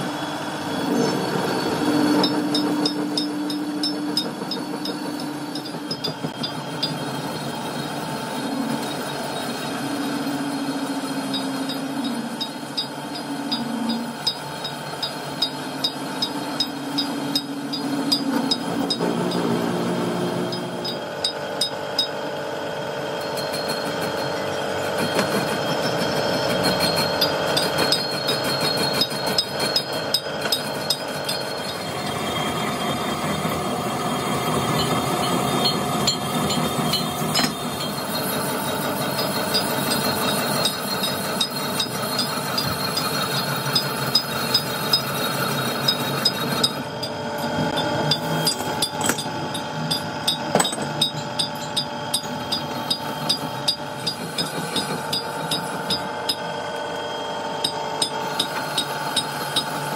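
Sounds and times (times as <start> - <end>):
metalworking machinery running: 0.0 - 59.9.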